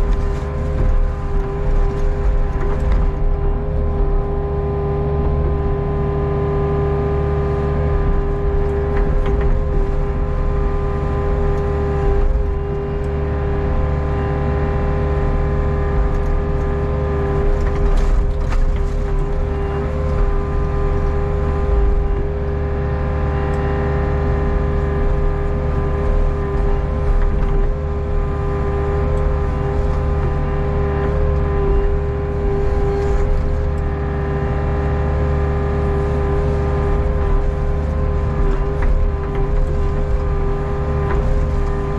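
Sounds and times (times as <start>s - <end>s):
diesel engine drone: 0.0s - 41.9s
hydraulic whining: 0.0s - 41.9s.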